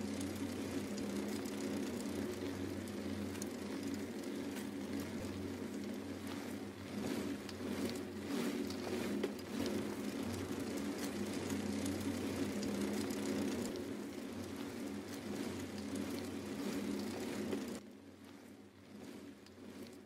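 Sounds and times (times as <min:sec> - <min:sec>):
bicycle road rumble: 0:00.0 - 0:20.0.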